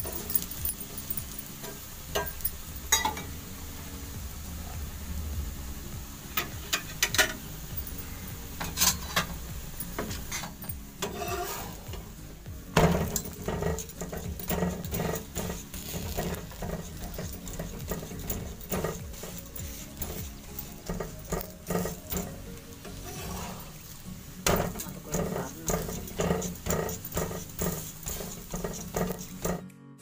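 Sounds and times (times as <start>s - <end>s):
spatula scraping and tapping griddle: 0.0s - 3.4s, 6.3s - 29.7s.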